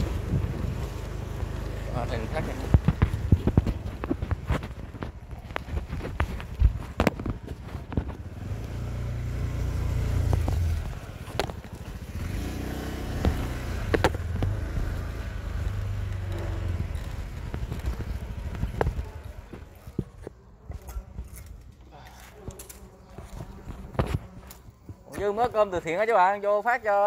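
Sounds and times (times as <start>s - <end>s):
motor scooter running: 0.0s - 21.7s.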